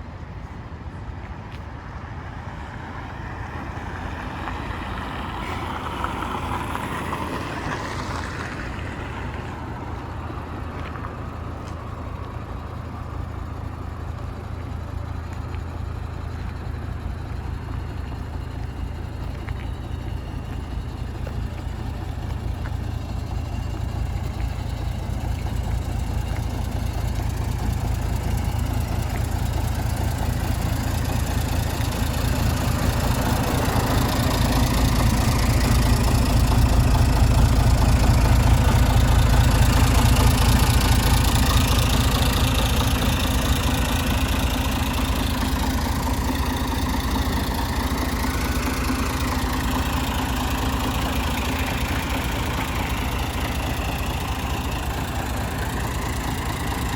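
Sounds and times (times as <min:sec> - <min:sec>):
bus diesel engine running: 0:00.0 - 0:56.9
road noise: 0:00.0 - 0:56.9.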